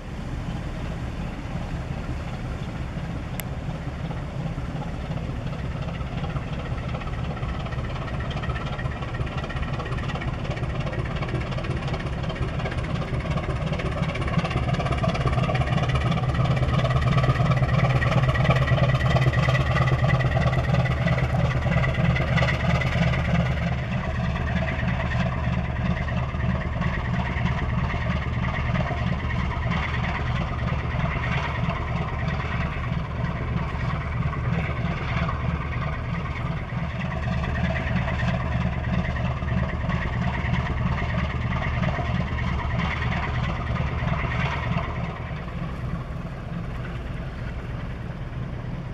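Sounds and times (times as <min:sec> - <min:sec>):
propeller wash churning: 0:00.0 - 0:48.9
ship diesel engine throbbing: 0:00.0 - 0:48.9.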